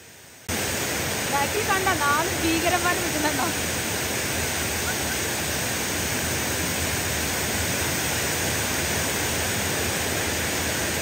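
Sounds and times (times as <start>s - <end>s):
waterfall rushing: 0.5s - 11.0s.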